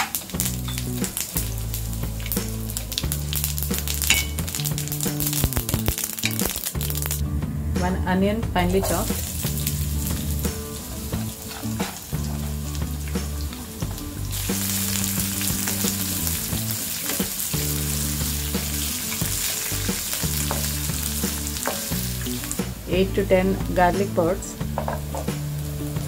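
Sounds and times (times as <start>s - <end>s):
onion sizzling in hot oil: 0.0s - 7.2s, 8.8s - 26.0s
low background music: 0.0s - 26.0s.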